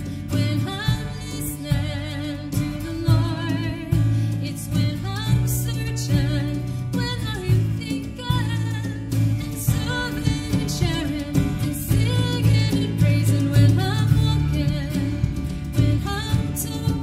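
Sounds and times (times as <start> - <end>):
acoustic guitar: 0.0 - 17.0
drum kit played with brushes: 0.0 - 17.0
electric bass: 0.0 - 17.0.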